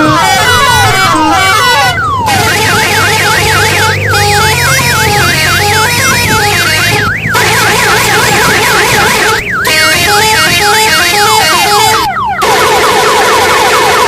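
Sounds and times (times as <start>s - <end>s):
bus multi-tone horn warbling: 0.0s - 14.0s.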